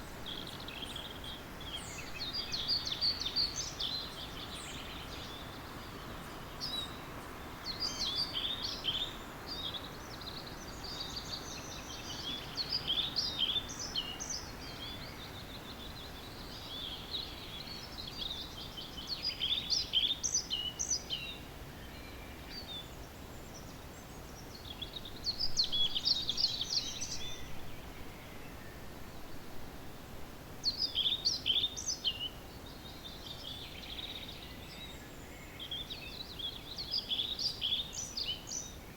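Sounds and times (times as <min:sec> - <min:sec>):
outdoor background hiss: 0:00.0 - 0:38.9
songbirds singing: 0:00.0 - 0:38.9.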